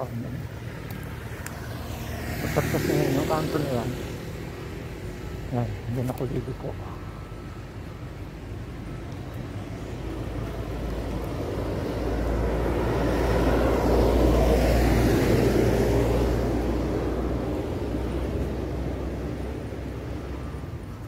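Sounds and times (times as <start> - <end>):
passing vehicle rumble: 0.0 - 21.0.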